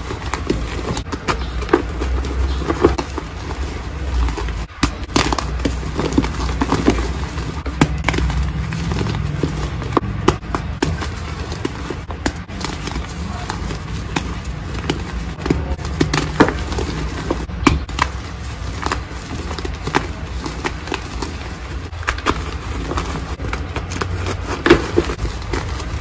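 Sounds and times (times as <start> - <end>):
chalk crunching and crackling: 0.0 - 26.0
chalk snapping: 0.0 - 26.0.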